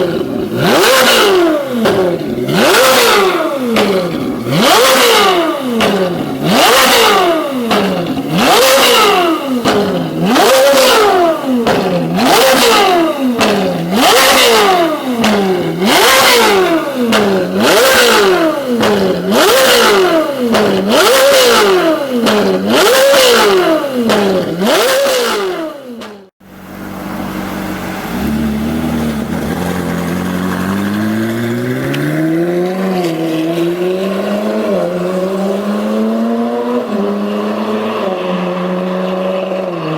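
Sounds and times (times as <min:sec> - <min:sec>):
car accelerating: 0:00.0 - 0:39.9
sports car engine revving: 0:00.0 - 0:39.9.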